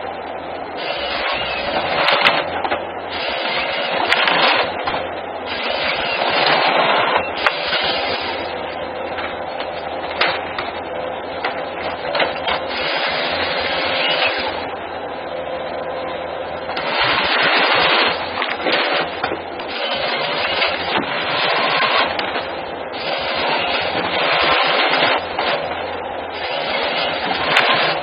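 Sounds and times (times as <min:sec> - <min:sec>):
heavy machine engine hum: 0:00.0 - 0:28.0.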